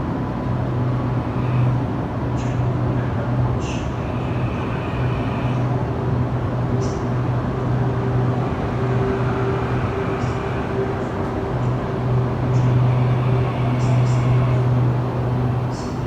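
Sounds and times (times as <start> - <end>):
vehicle hum and rumble: 0.0 - 16.0.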